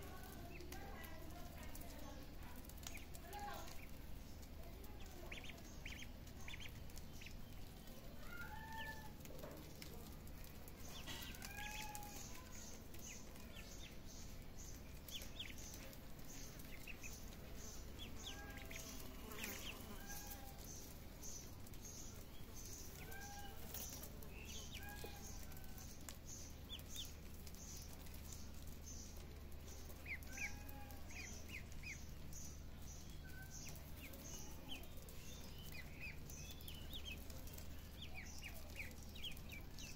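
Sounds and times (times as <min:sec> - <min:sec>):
ducklings peeping: 0:00.1 - 0:39.9.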